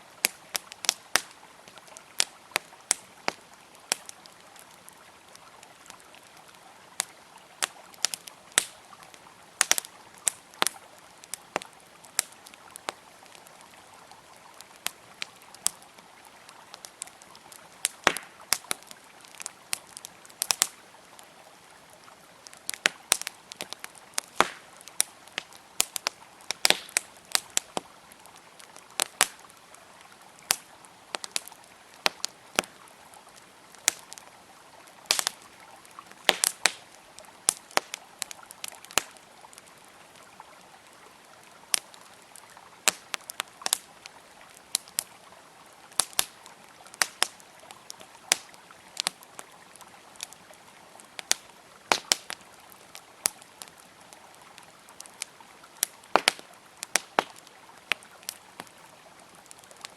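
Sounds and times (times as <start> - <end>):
campfire crackling and popping: 0.0 - 59.9
river water flowing: 0.0 - 59.9.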